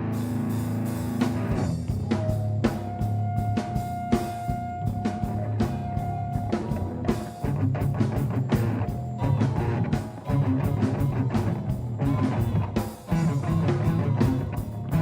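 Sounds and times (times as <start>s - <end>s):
bass guitar: 0.0s - 15.0s
distorted electric guitars: 0.0s - 15.0s
drum kit: 0.0s - 15.0s.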